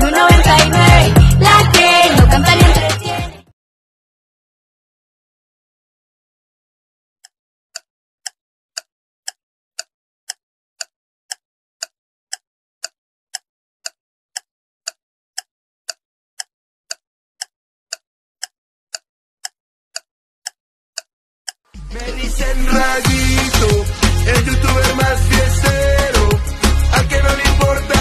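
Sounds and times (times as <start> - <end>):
timer ticking: 0.0 - 3.2, 7.2 - 28.0.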